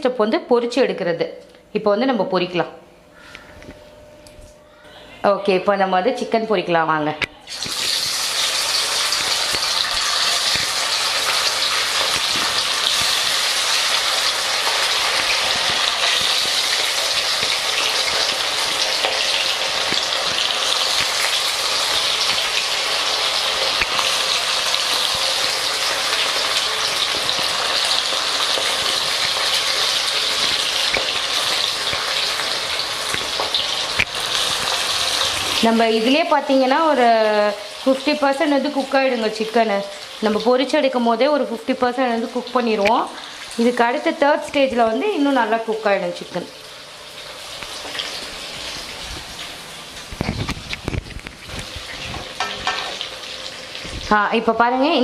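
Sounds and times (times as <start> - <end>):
chicken deep-frying in oil: 7.5 - 55.0.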